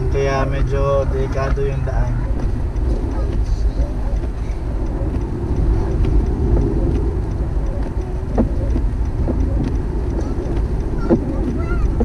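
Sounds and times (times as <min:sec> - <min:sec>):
car driving on snow from inside: 0:00.0 - 0:12.0.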